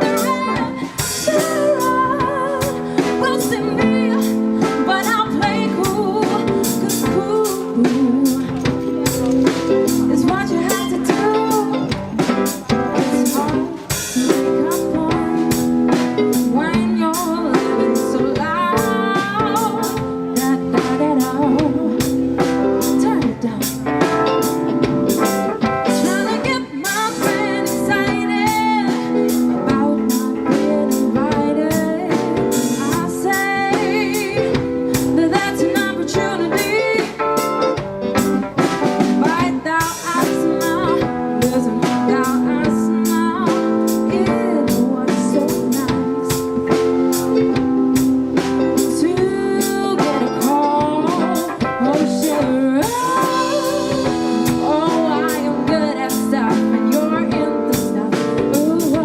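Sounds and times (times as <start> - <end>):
drum kit: 0.0 - 59.0
guitar: 0.0 - 59.0
lead singer: 0.0 - 59.0.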